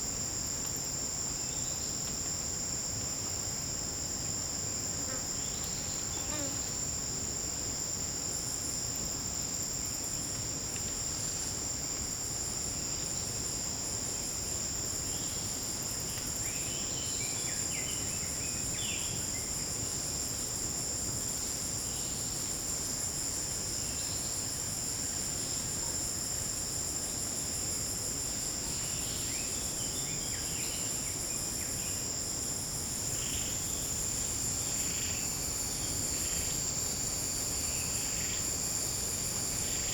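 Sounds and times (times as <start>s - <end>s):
insects buzzing: 0.2s - 39.9s.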